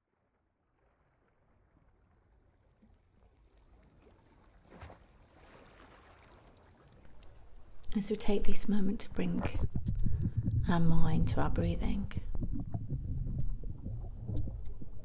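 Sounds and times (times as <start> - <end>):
gentle ocean waves: 0.2 - 15.0.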